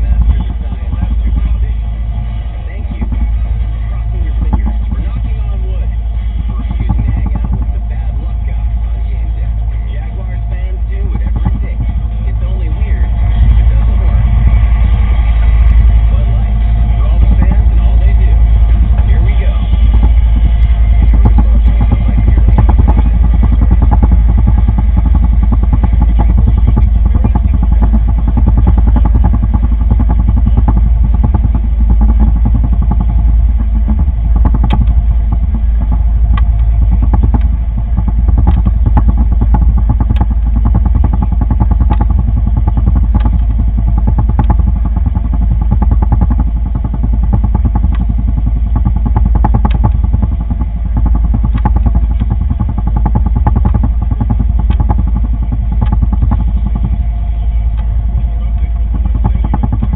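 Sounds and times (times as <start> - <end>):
boat motor droning: 0.0 - 59.9.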